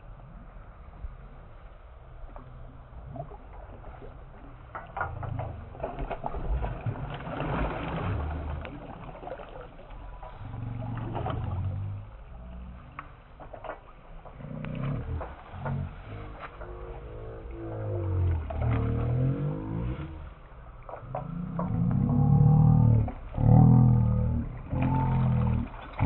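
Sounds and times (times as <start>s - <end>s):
low rumble: 0.0s - 26.0s
fish thrashing and splashing: 3.3s - 26.0s.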